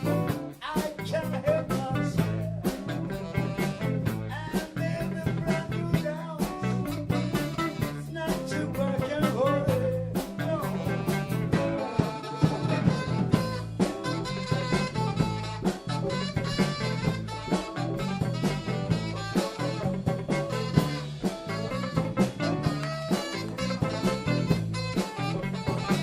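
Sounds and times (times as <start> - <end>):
drum kit beat: 0.0 - 26.0
electric bass line: 0.0 - 26.0
electric guitars: 0.0 - 26.0
alto saxophone: 1.9 - 26.0.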